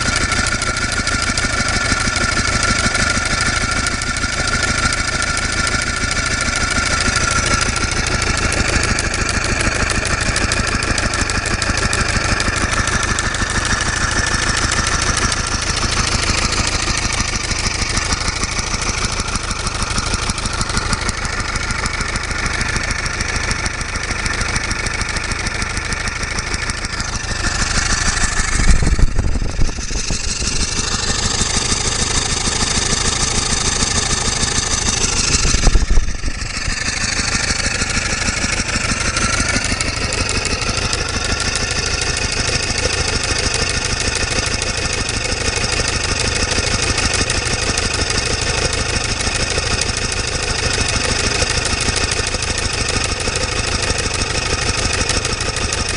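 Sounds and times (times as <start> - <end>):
steam engine running on air: 0.0 - 55.9.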